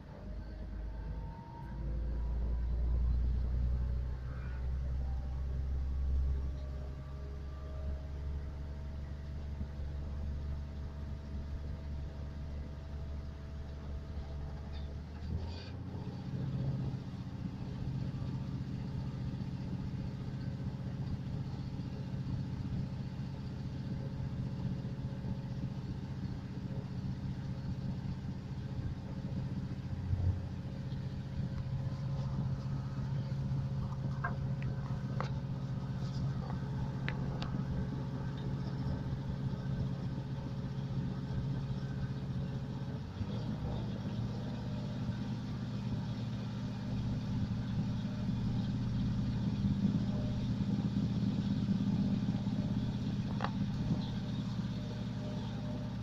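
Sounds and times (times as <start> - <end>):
train running hum: 0.0 - 56.0.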